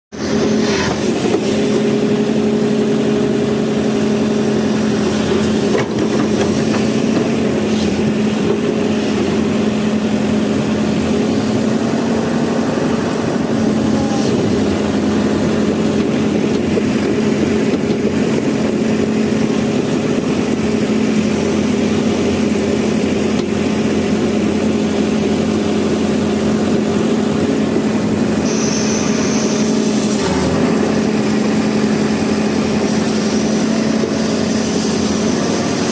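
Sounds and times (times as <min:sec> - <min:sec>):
excavator diesel engine droning: 0:00.1 - 0:35.9.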